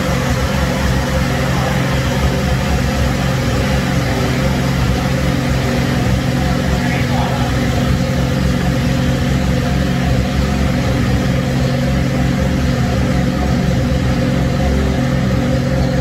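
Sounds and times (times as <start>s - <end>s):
rotary engine running steadily: 0.0s - 16.0s.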